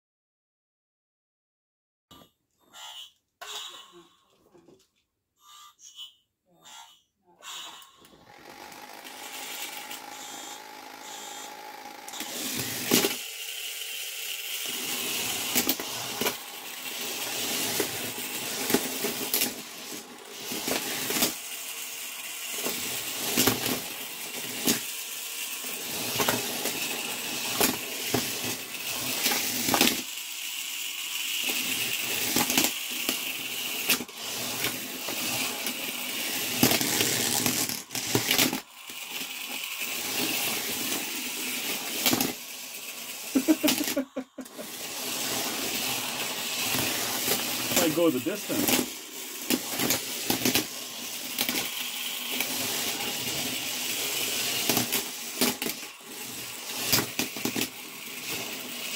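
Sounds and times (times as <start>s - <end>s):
toy robot motors whirring: 5.8s - 58.9s.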